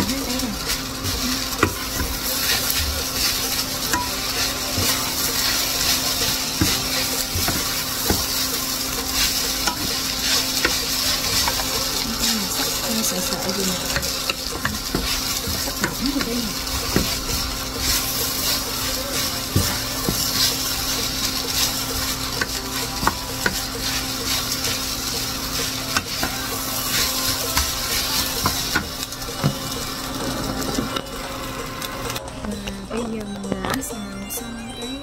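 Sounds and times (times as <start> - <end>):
potato strips sizzling in pan: 0.0 - 32.2
spatula scraping and clicking on pan: 0.6 - 31.0.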